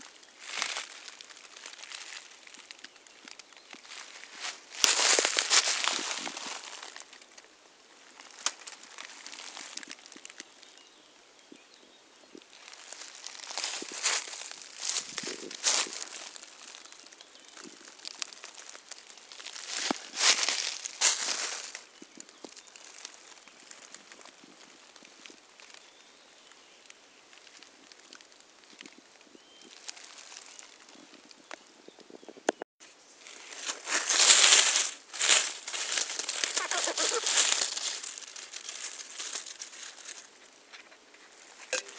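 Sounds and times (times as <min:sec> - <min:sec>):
dry leaves rustling and crunching: 0:00.0 - 0:11.0, 0:12.5 - 0:31.5, 0:32.8 - 0:41.9.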